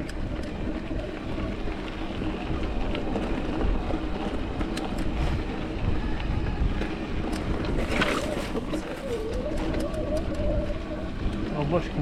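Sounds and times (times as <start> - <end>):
bike rumbling and rattling: 0.0 - 12.0.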